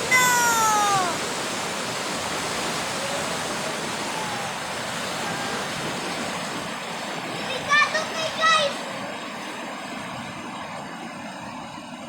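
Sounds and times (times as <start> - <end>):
floodwater rushing: 0.0 - 11.4.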